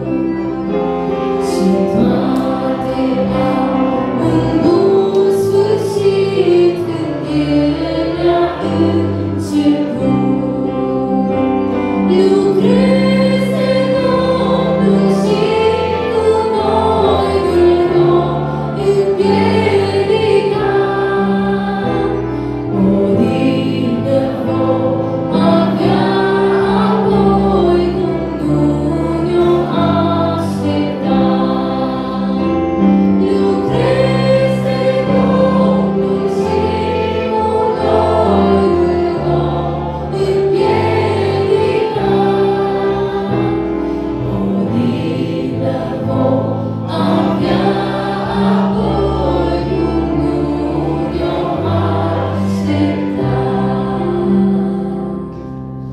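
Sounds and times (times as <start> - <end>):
woman singing a hymn: 1.4 - 55.4.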